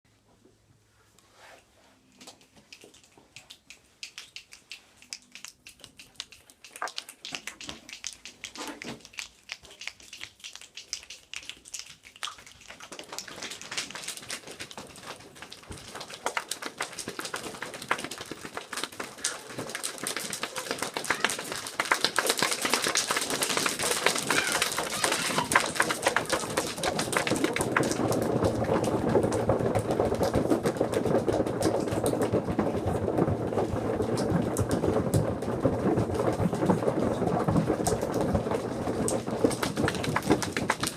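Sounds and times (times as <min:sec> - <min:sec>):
children tapping a rain sound: 0:02.1 - 0:40.9.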